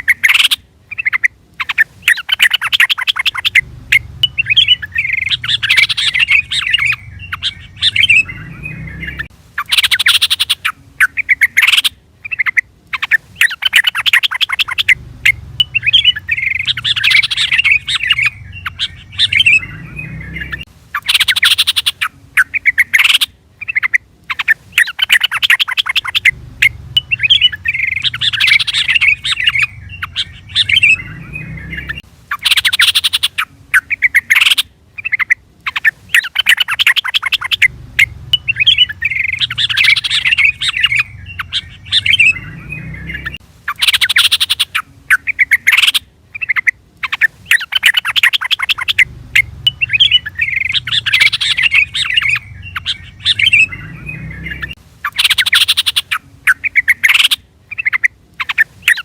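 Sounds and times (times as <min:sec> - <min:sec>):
bird song chattering: 0:00.0 - 0:59.0
rapid sharp bird notes: 0:00.0 - 0:59.0.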